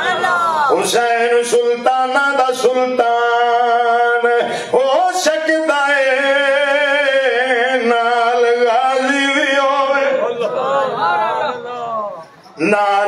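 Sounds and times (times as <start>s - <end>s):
man singing unaccompanied: 0.6s - 13.0s.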